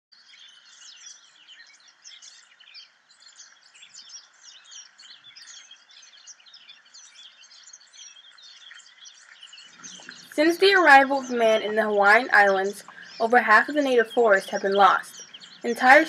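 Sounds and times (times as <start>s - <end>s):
birds chirping and singing: 0.2s - 16.0s.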